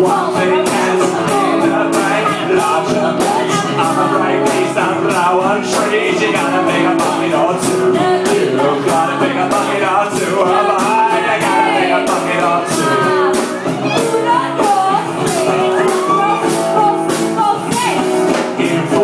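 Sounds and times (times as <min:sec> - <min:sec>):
live rock band playing: 0:00.0 - 0:19.0
person singing: 0:00.0 - 0:19.0
steady drum beat: 0:00.0 - 0:19.0.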